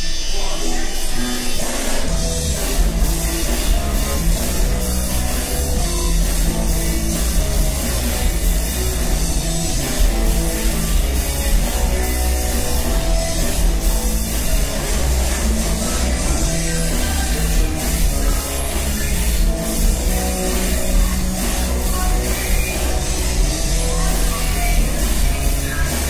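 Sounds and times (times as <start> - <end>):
bass guitar: 0.0 - 26.0
distorted electric guitars: 0.0 - 26.0
drum kit: 0.0 - 26.0.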